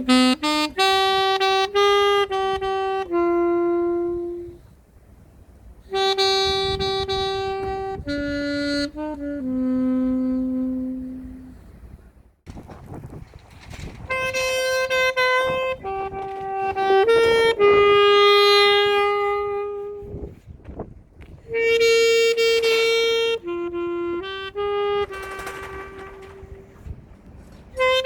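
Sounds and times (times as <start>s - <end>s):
alto saxophone slow melody: 0.0s - 12.2s, 14.1s - 20.4s, 21.2s - 28.0s.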